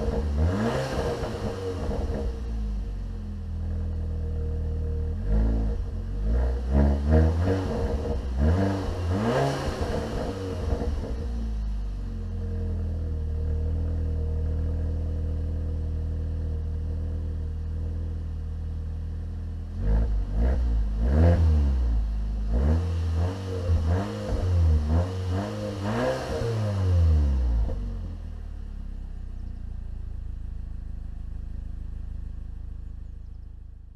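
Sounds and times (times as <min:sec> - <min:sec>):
car engine idling: 0:00.0 - 0:33.9
car engine revving: 0:00.0 - 0:33.9.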